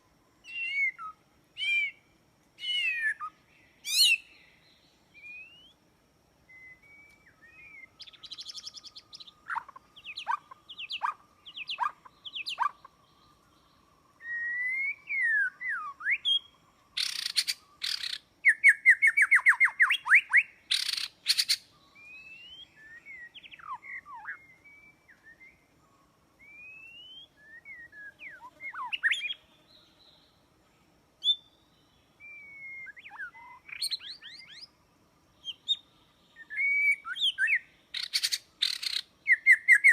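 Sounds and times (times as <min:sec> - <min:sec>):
songbird whistling and trilling: 0:00.4 - 0:02.0, 0:02.6 - 0:05.8, 0:06.5 - 0:12.8, 0:14.2 - 0:25.7, 0:26.4 - 0:29.4, 0:31.2 - 0:31.6, 0:32.2 - 0:34.7, 0:35.4 - 0:39.9.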